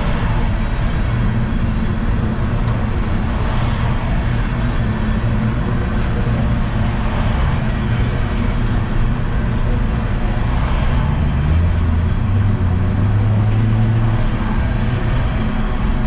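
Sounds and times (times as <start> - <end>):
diesel locomotive engine: 0.0 - 16.0
train rolling noise: 0.0 - 16.0.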